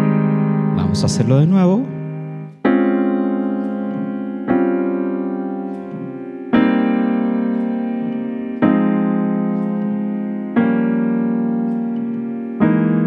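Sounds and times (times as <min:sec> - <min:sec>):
piano chords ringing: 0:00.0 - 0:13.0.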